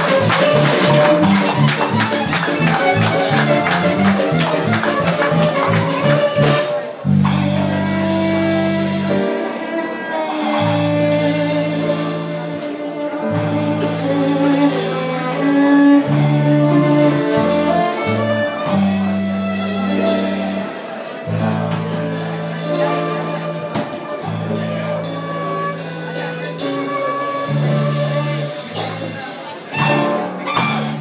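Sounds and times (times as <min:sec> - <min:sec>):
electric bass guitar: 0:00.0 - 0:09.6, 0:10.2 - 0:29.2, 0:29.8 - 0:31.0
drum kit: 0:00.0 - 0:31.0
violin melody: 0:00.0 - 0:31.0.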